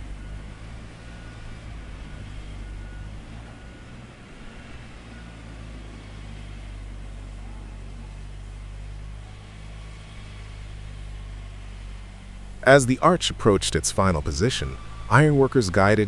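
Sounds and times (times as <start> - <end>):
heavy machinery drone: 0.0 - 16.0.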